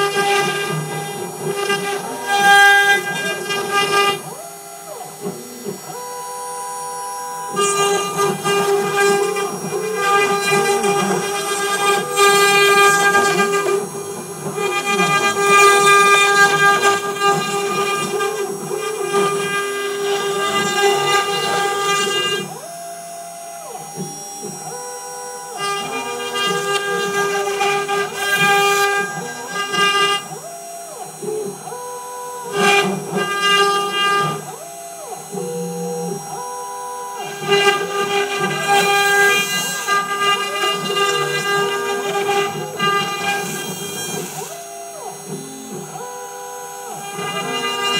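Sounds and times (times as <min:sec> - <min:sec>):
bit cutting into wood: 0:00.0 - 0:47.9
motor whine sliding in pitch: 0:00.0 - 0:47.9
router spindle whining: 0:00.0 - 0:47.9.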